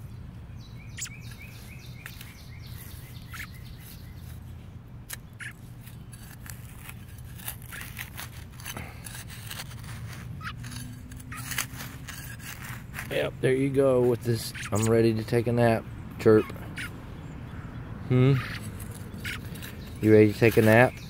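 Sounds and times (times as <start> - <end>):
fledgling robin chirps: 0.0 - 8.4, 9.5 - 21.0.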